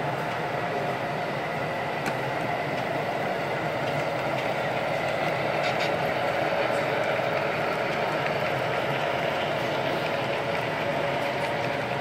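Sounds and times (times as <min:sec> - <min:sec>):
model train hum and rumble: 0:00.0 - 0:12.0.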